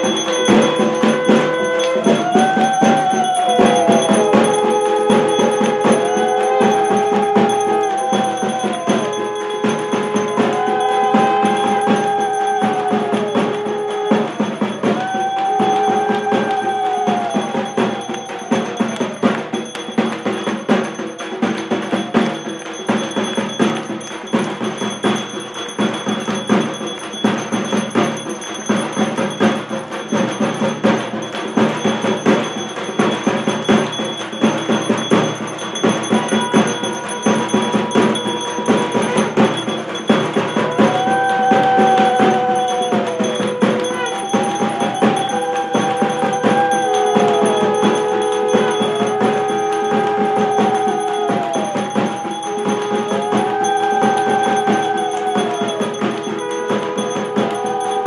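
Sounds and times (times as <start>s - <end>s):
brass hand bell ringing: 0.0s - 58.0s
fast dense drumming: 0.0s - 58.0s.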